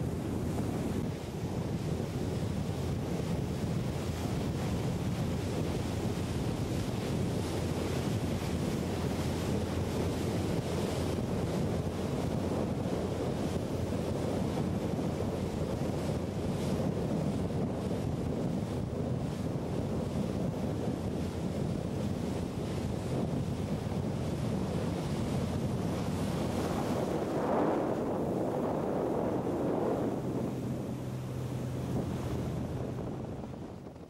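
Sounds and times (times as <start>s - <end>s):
rushing water and waves: 0.0s - 34.0s
wind buffeting microphone: 0.0s - 34.0s.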